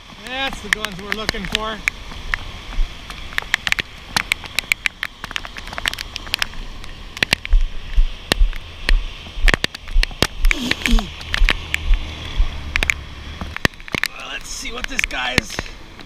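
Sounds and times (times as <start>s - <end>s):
wind buffeting microphone: 0.0s - 14.1s
raindrops ticking on rain gear: 0.0s - 16.0s.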